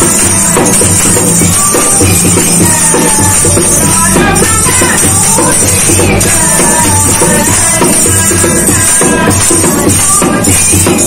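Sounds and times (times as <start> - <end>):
hand drum beat: 0.0 - 11.0
high jingling percussion: 0.0 - 11.0
women singing devotional song: 0.0 - 11.0.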